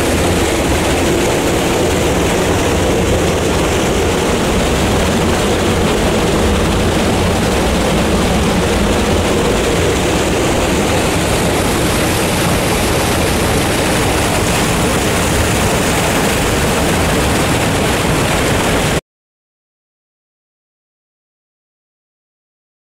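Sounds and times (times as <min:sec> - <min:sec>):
creek water rushing: 0:00.0 - 0:19.0.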